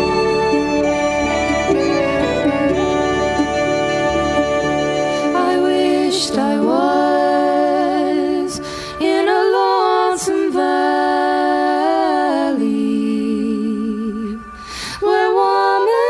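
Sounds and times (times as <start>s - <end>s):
two women singing in harmony: 0.0s - 16.0s.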